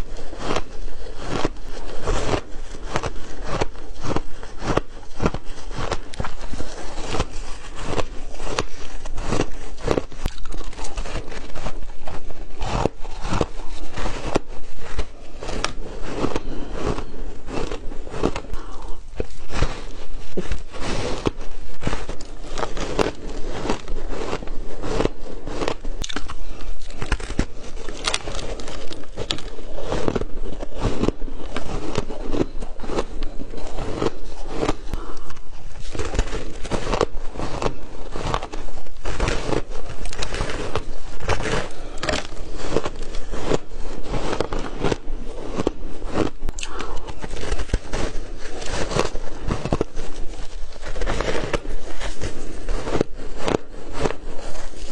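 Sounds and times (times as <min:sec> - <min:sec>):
chewing crunchy shaved ice: 0:00.1 - 0:52.6.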